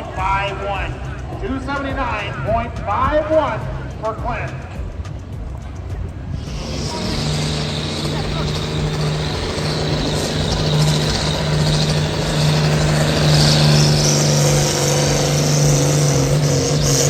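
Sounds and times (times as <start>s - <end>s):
pulling vehicle engine droning: 0.0s - 17.0s.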